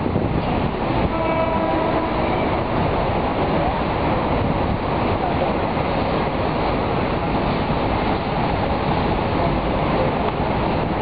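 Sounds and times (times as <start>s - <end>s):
steady rumbling noise: 0.0s - 11.0s.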